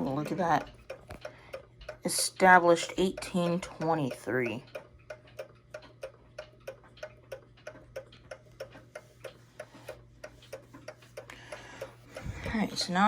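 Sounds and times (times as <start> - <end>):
mantel clock ticking: 0.0 - 13.0.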